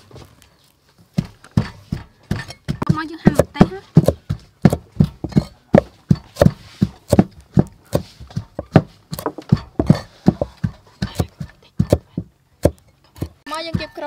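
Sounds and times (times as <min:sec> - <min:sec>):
knife chopping on wooden block: 0:01.2 - 0:14.0.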